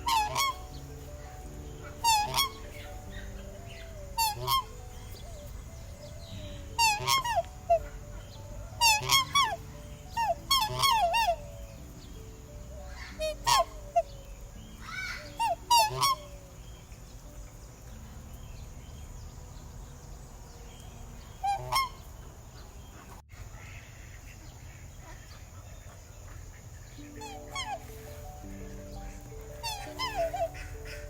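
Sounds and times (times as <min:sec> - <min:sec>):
bird calling: 0:00.0 - 0:31.0.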